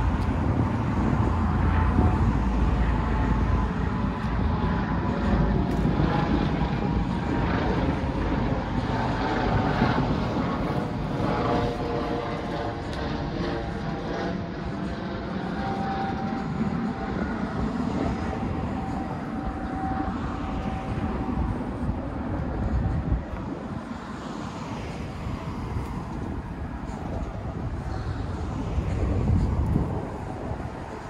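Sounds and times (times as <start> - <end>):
faint engine whine: 0.0 - 31.0
low rumble of street traffic: 0.0 - 31.0.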